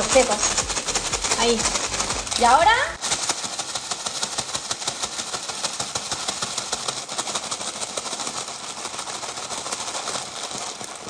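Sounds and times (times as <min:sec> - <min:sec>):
fries shaken in paper bags: 0:00.0 - 0:11.0.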